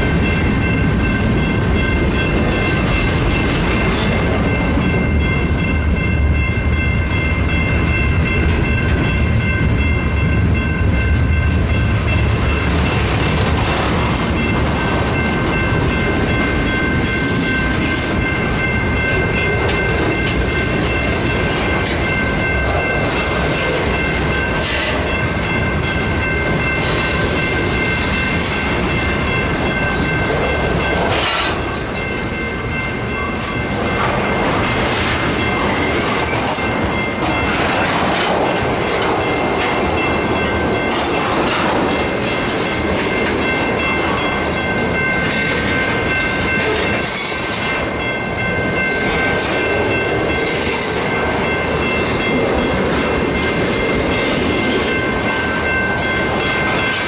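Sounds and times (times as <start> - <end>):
train wheels clacking on rails: 0.0 - 57.0.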